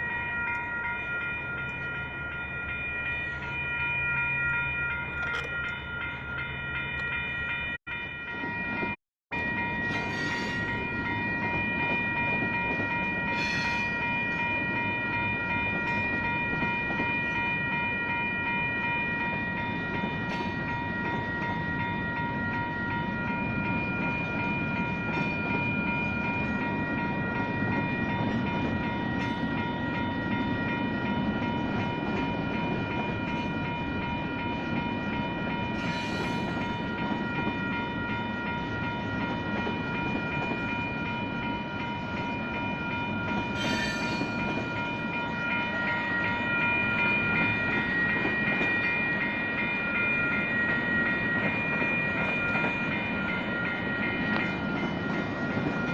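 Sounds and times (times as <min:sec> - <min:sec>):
railroad crossing bells ringing: 0:00.0 - 0:55.9
train rumbling past: 0:00.0 - 0:55.9.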